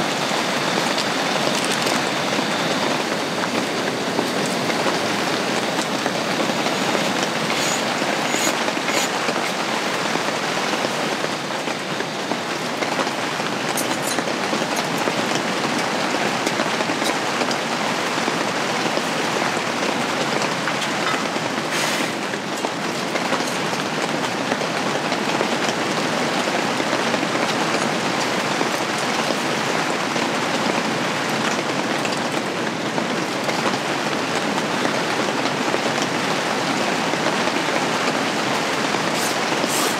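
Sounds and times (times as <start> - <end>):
rain on fabric roof: 0.0 - 39.9.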